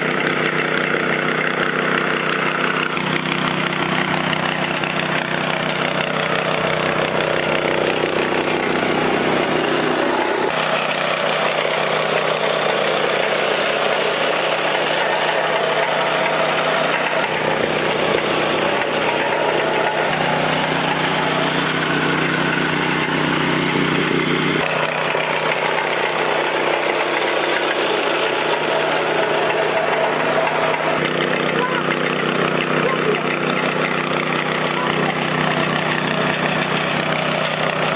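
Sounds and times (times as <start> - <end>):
machinery engine drone: 0.0 - 37.9.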